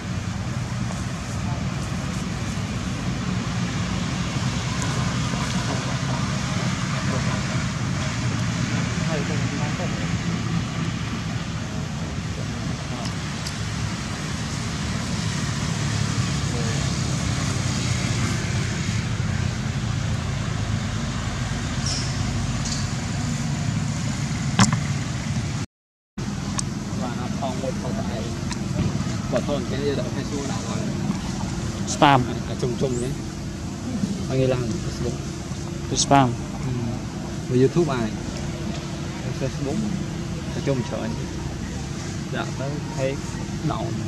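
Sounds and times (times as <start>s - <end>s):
low rumble of road traffic: 0.0s - 25.6s, 26.2s - 44.0s.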